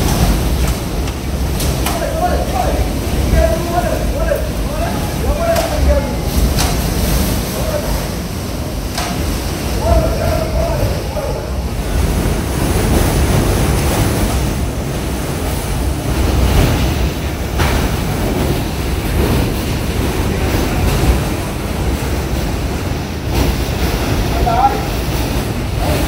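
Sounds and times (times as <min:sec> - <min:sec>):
hurricane wind against building: 0:00.0 - 0:26.0.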